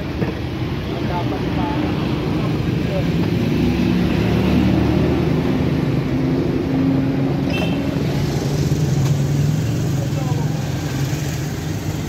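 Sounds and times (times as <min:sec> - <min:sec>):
road traffic engine drone: 0:00.0 - 0:12.0.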